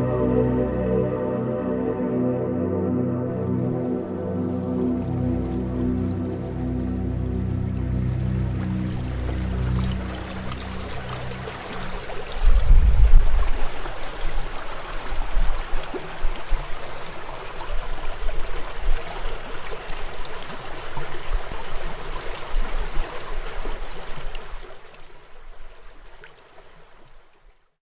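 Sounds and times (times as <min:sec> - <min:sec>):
water flowing in a forest stream: 0:03.3 - 0:27.8.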